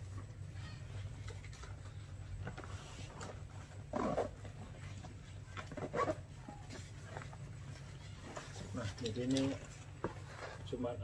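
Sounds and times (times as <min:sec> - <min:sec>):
faint rustling of straps: 0:00.0 - 0:11.0.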